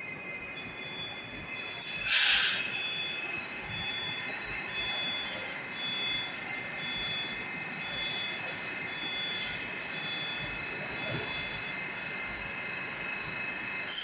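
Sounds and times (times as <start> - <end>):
train equipment high whine: 0.0 - 14.0.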